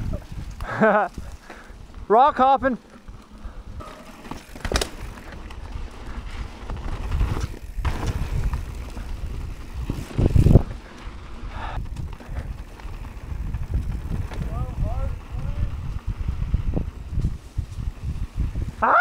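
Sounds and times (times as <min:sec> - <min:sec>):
wind buffeting microphone: 0:00.0 - 0:02.1, 0:03.0 - 0:19.0
bike tyres rumbling on dirt: 0:00.0 - 0:19.0.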